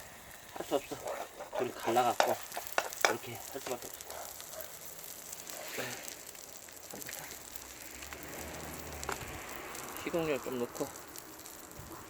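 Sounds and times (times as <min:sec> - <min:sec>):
crackling wood fire: 0:00.0 - 0:12.0
pancake sizzling in a frying pan: 0:00.0 - 0:12.0.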